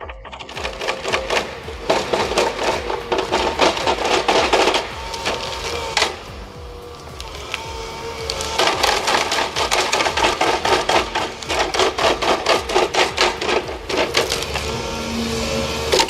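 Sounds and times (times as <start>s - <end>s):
machine engine hum: 0.0s - 16.0s
stump grinder cracking wood: 0.0s - 16.0s.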